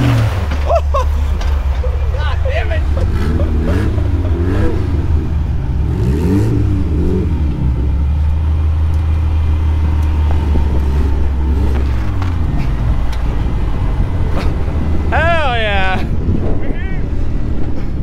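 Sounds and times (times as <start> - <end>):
engine revving under load: 0.0 - 1.7, 2.7 - 16.4
steady low rumble: 0.1 - 18.0.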